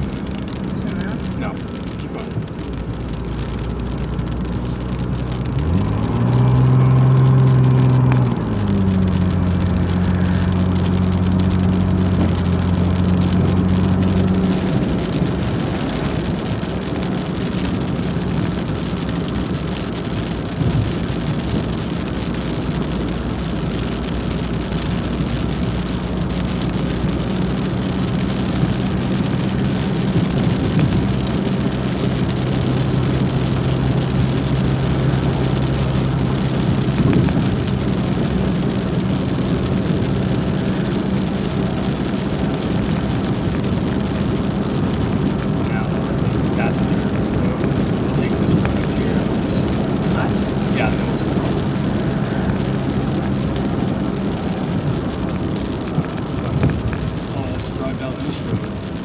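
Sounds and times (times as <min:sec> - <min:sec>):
car engine: 0:00.0 - 0:59.0
rain hitting car: 0:00.0 - 0:59.0
tyre noise on wet road: 0:00.0 - 0:59.0.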